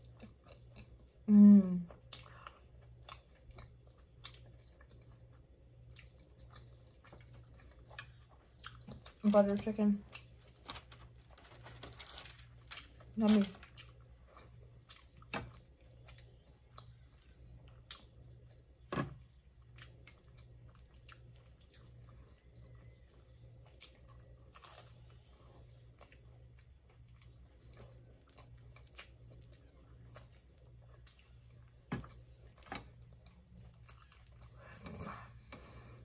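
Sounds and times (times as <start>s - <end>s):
person chewing food: 0.0s - 1.3s, 1.9s - 9.2s, 10.0s - 36.0s
low steady hum: 0.0s - 36.0s.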